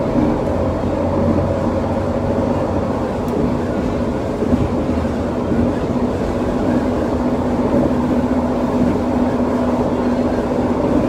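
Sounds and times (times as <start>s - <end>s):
metro train running rumble: 0.0s - 11.0s.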